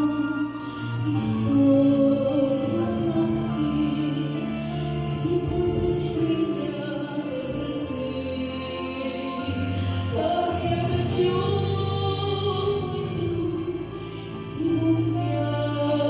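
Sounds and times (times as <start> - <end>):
person singing: 0.0 - 16.0
sustained bass notes: 0.0 - 16.0.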